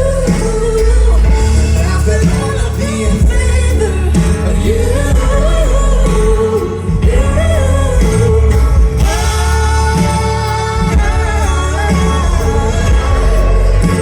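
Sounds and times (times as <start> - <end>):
person singing long sliding notes: 0.0 - 14.0
pop band playing live: 0.0 - 14.0.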